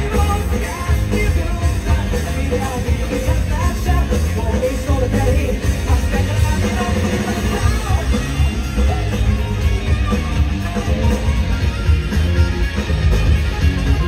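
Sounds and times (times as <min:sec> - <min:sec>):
person singing: 0:00.0 - 0:11.4
live rock band playing: 0:00.0 - 0:14.0.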